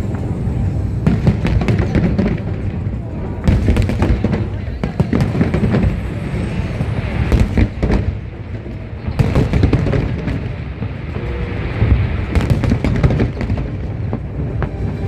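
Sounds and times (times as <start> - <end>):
fireworks booming: 0.0 - 15.0
fireworks crackling: 0.0 - 15.0.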